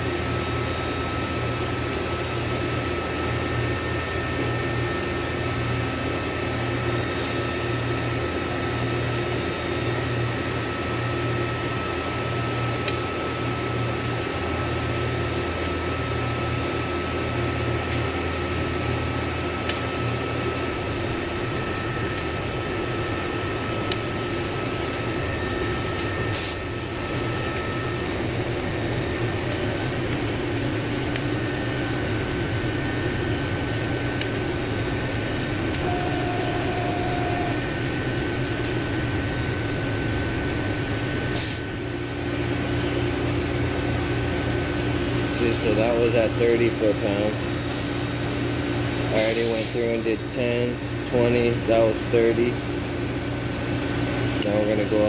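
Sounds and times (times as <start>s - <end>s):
fan hum: 0.0s - 55.0s.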